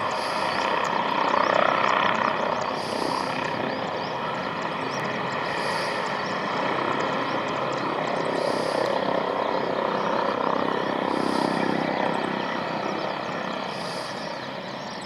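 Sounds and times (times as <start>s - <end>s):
jet turbine whine: 0.0s - 15.0s.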